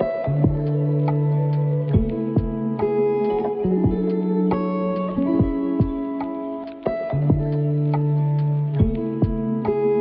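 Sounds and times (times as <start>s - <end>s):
low beats: 0.0s - 3.0s, 3.6s - 9.8s
plucked notes over held chords: 0.0s - 10.0s.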